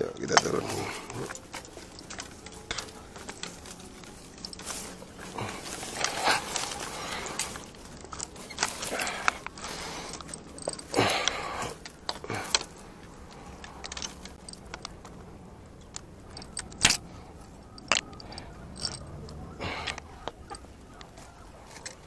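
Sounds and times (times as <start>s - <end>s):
bamboo stalks and leaves rustling: 0.0s - 22.0s.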